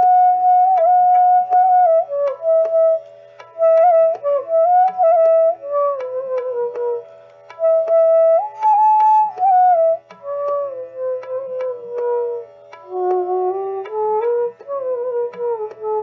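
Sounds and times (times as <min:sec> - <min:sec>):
flute melody: 0:00.0 - 0:16.0
light percussion strokes: 0:00.0 - 0:16.0.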